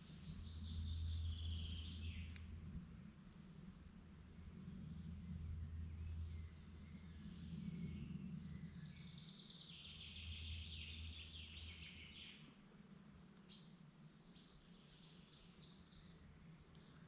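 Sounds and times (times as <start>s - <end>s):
songbird singing: 0.0s - 2.6s, 3.6s - 17.0s
faint low hum: 0.0s - 17.0s.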